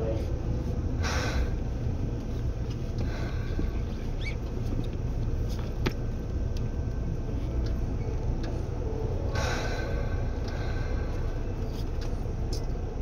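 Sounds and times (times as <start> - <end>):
train car rumble: 0.0 - 13.0.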